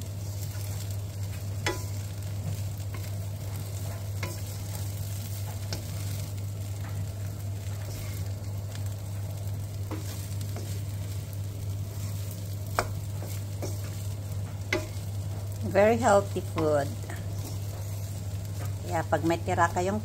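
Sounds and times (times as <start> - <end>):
rice sizzling in a pan: 0.0 - 20.0.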